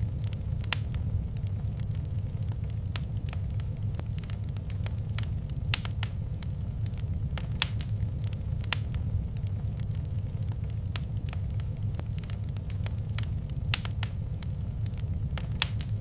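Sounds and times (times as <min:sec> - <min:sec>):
fire popping and snapping: 0:00.0 - 0:16.0
low rumble of fire: 0:00.0 - 0:16.0.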